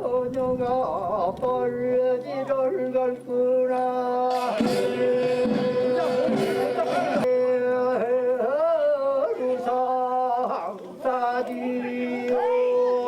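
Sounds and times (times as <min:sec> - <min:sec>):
people singing folk song: 0:00.0 - 0:13.0.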